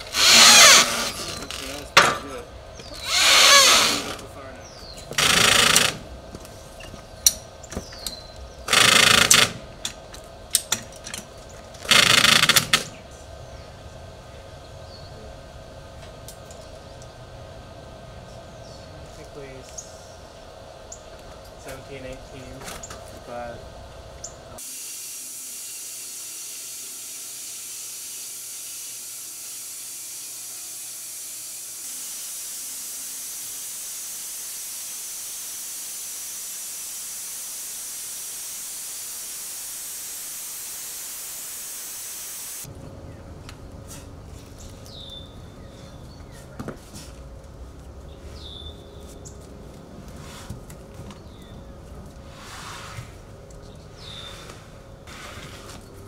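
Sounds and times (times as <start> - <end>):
steady hissing noise: 0.0 - 45.4, 51.8 - 56.0.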